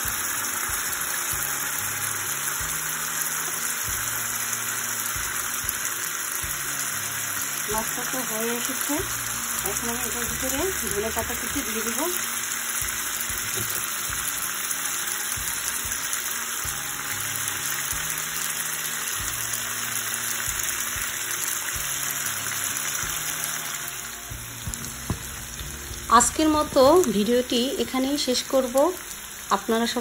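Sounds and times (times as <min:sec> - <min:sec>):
curry sizzling in a pan: 0:00.0 - 0:30.0.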